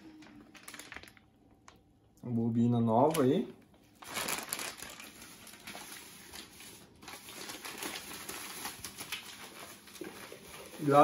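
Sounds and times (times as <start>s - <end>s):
plastic packaging crinkling: 0.0s - 1.9s, 3.1s - 11.0s.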